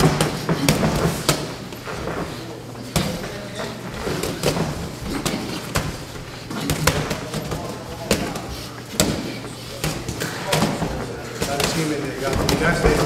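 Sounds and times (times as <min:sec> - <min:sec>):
feet moving on ring canvas: 0:00.0 - 0:13.0
steady low hum: 0:00.0 - 0:13.0.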